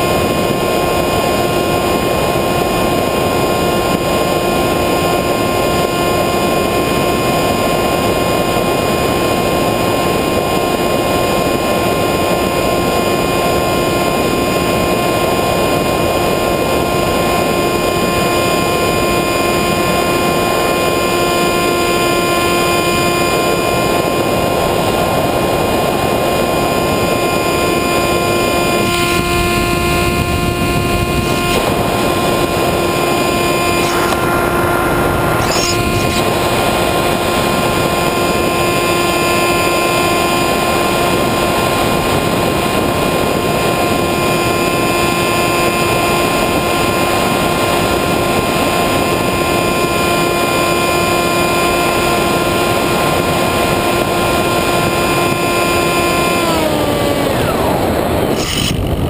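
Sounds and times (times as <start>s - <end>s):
model plane motor whine: 0.0s - 59.0s.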